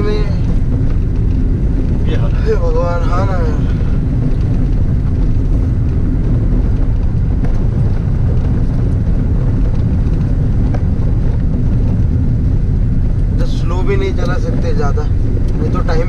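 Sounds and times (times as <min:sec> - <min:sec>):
car driving on rough road: 0:00.0 - 0:16.0.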